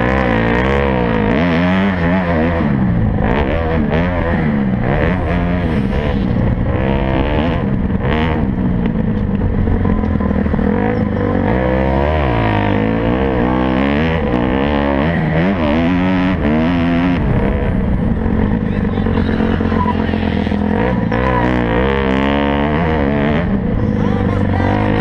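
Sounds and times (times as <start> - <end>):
motocross bike engines racing: 0.0 - 25.0.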